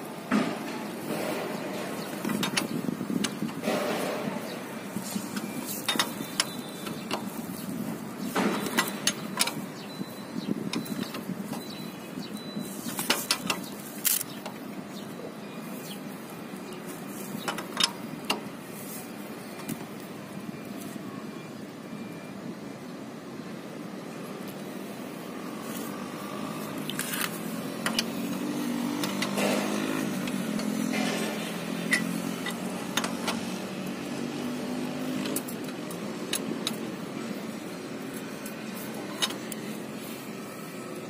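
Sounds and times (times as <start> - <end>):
street traffic noise: 0.0 - 41.0.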